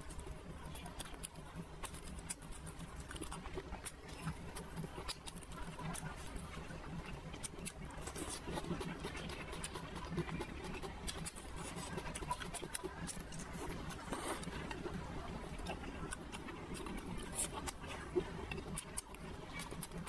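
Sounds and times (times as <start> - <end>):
person chewing noodles: 0.0 - 20.0.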